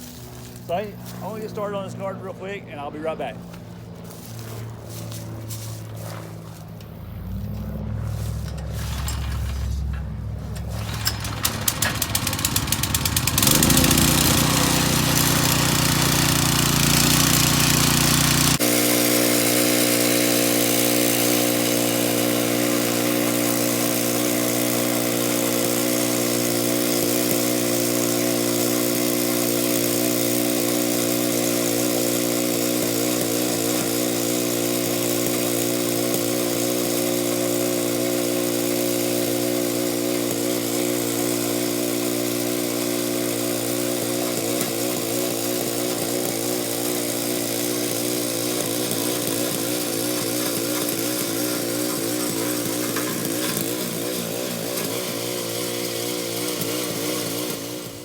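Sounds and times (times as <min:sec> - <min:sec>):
small gasoline engine running: 0:00.0 - 0:58.0.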